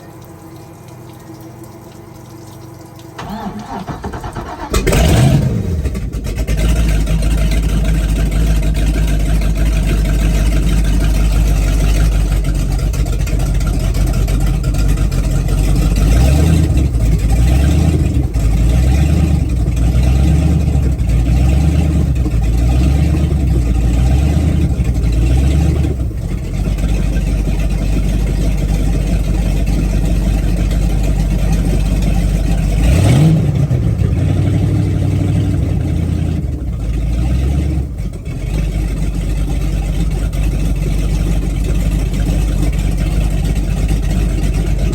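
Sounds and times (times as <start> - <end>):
boat engine revving and idling: 3.2 - 44.9.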